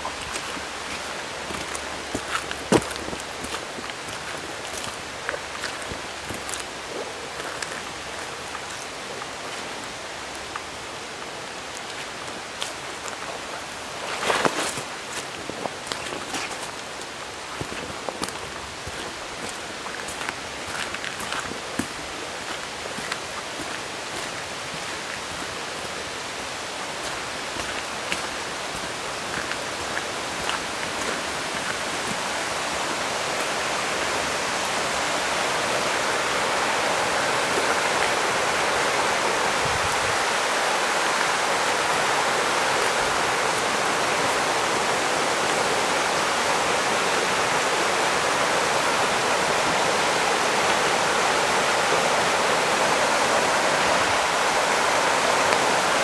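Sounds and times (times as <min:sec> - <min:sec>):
stream rushing over rapids: 0:00.0 - 0:56.0.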